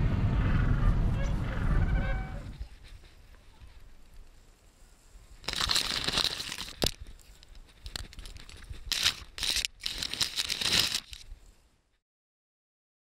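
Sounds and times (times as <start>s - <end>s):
grass rustling against camera: 1.3s - 12.0s.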